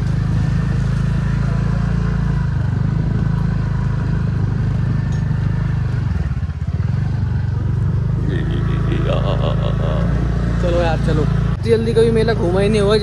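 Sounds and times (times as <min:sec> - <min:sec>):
motor scooter engine drone: 0:00.0 - 0:13.0.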